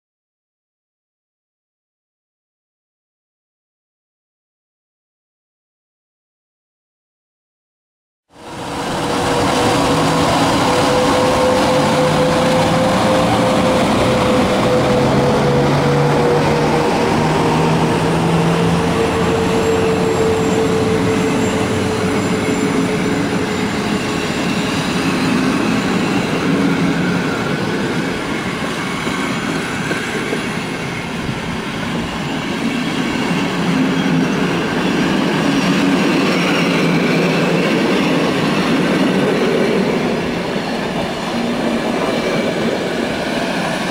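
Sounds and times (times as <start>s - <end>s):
humming tone from passing train: 8.3s - 43.9s
train wheels on rails: 8.4s - 43.9s.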